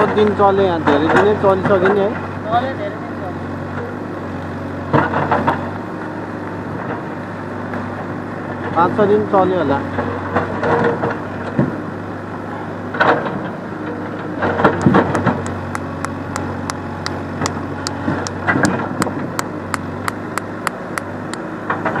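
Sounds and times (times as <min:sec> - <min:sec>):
backhoe engine running: 0:00.0 - 0:22.0.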